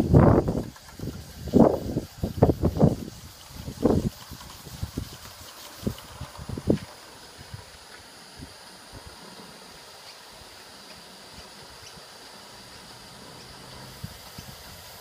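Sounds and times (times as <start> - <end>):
faint steam hissing: 0.0 - 15.0.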